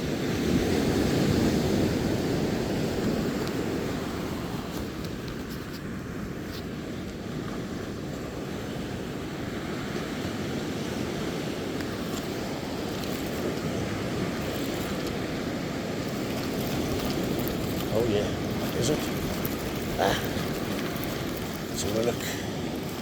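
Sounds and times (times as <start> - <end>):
ocean surf breaking on shore: 0.0 - 23.0.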